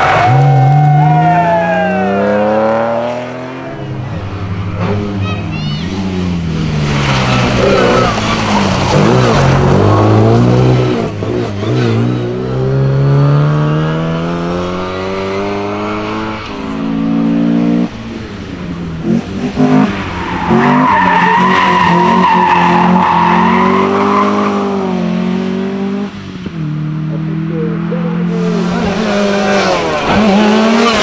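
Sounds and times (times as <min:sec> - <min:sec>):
rally car engines at full throttle: 0:00.0 - 0:31.0.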